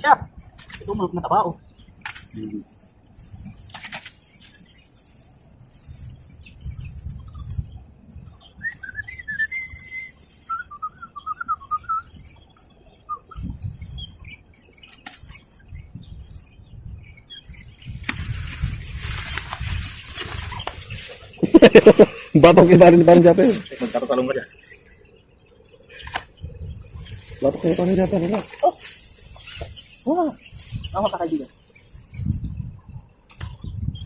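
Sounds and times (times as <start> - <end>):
small bird chirping: 0.0 - 34.0.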